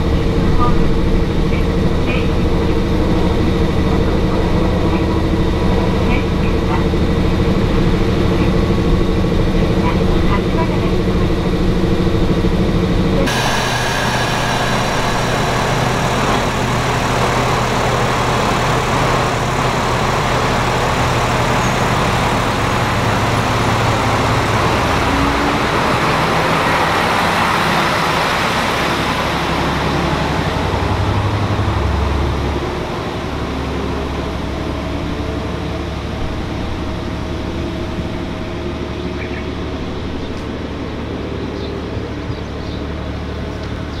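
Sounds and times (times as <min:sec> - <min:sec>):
diesel engine droning: 0:00.0 - 0:44.0
train wheels rumbling on rails: 0:00.0 - 0:44.0.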